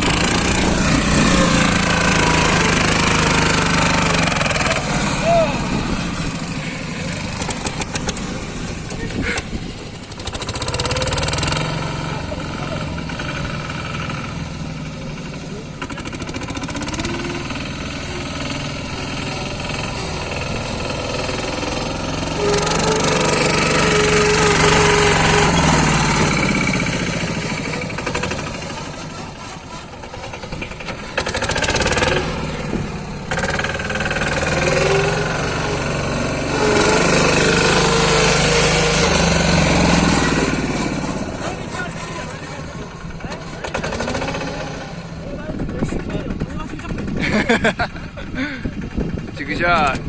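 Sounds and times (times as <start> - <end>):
diesel tractor engine under load: 0.0 - 50.0.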